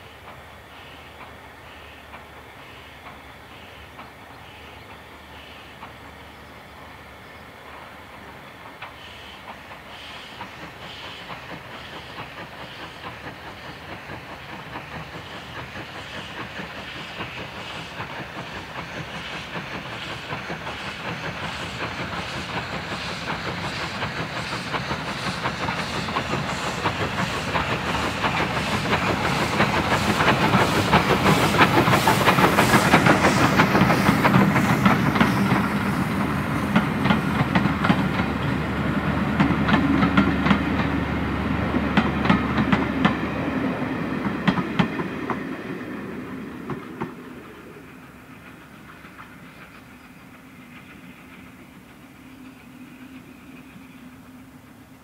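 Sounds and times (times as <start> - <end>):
steam locomotive chuffing: 0.0 - 55.0
train wheels clickety-clack: 0.0 - 55.0.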